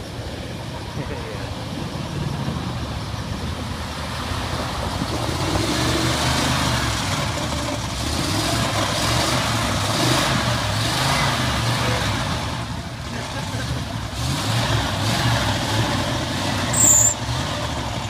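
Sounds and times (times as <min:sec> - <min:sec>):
pickup truck engine revving: 0:01.6 - 0:18.0.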